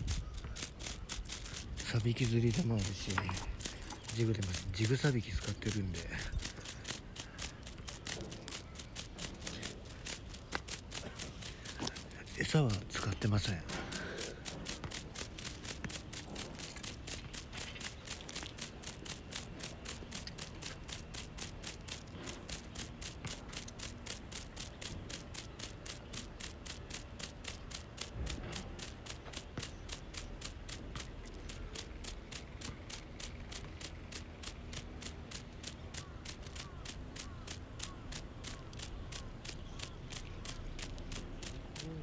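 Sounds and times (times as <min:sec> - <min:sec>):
fishing reel clicking: 0:00.0 - 0:42.0.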